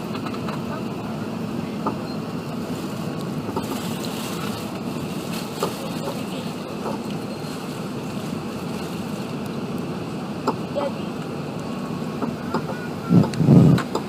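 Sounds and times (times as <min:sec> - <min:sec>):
airplane cabin rushing noise: 0:00.0 - 0:14.0.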